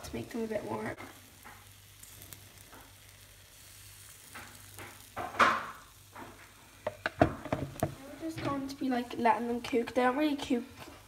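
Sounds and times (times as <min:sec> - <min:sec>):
batter sizzling in frying pan: 0:00.0 - 0:11.0
rush of sizzling batter: 0:00.0 - 0:11.0.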